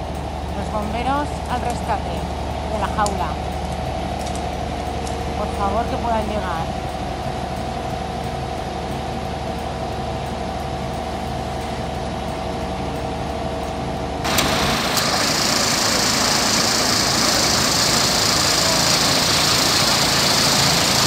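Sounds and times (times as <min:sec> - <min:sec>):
fire engine idling: 0:00.0 - 0:21.0.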